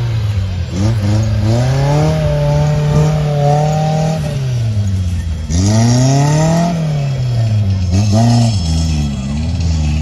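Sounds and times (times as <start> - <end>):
engine revving hard: 0.2 - 4.6, 5.4 - 10.0.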